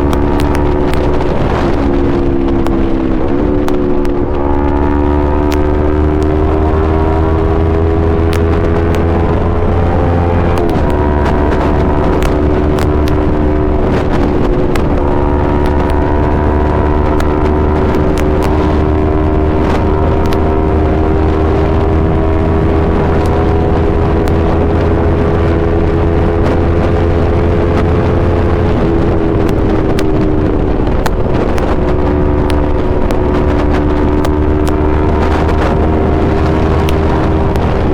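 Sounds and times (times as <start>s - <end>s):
motorcycle engine droning: 0.0s - 37.9s
wind noise on microphone: 0.0s - 37.9s.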